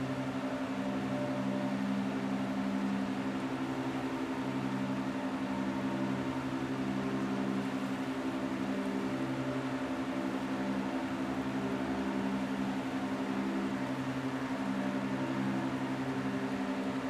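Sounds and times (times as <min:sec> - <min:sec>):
low mechanical hum with hiss: 0:00.0 - 0:17.0.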